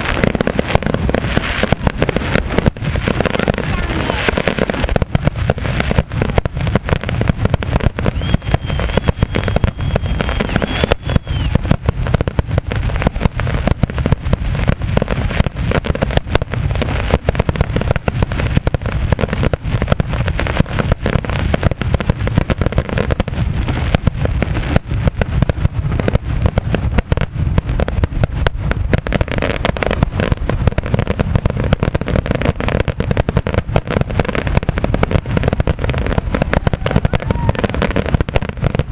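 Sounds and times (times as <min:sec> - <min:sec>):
fireworks exploding: 0:00.0 - 0:38.9.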